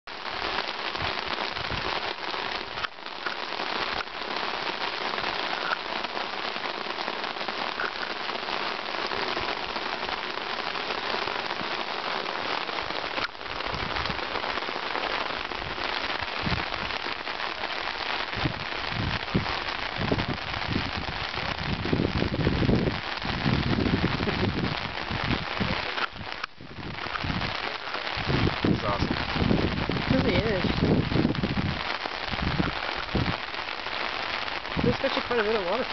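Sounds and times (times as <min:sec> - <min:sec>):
rain falling on rocks: 0:00.0 - 0:35.9.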